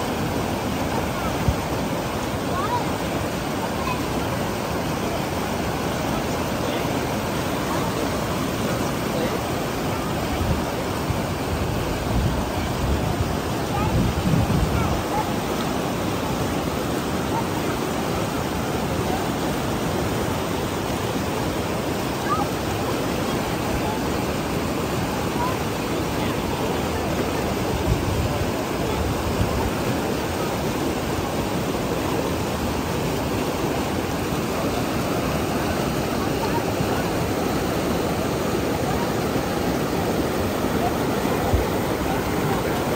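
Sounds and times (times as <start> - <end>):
water rushing over rocks: 0.0 - 42.9.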